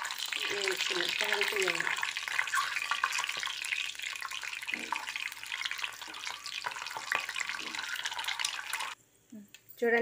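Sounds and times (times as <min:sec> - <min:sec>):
sizzling with crackling pops: 0:00.0 - 0:09.0.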